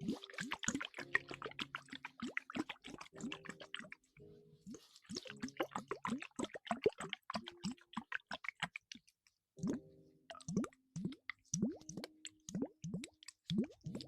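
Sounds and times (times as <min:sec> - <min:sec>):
wet plopping and clicking: 0:00.2 - 0:04.0, 0:05.1 - 0:14.0.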